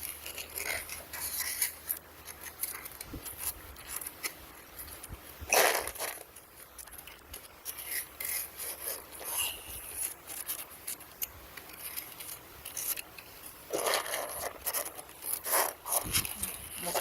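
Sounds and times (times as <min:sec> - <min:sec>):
scraping and rubbing: 0:00.0 - 0:17.0.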